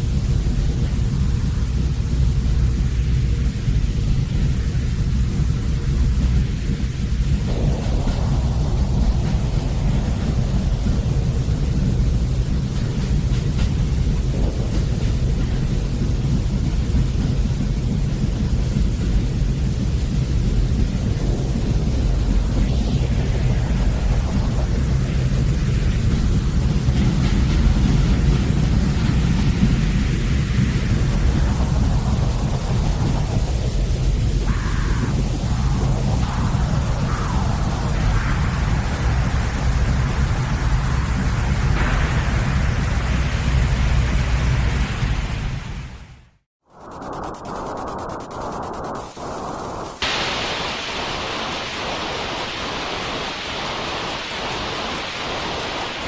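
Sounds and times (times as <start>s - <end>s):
deep white noise rushing: 0.0s - 56.0s.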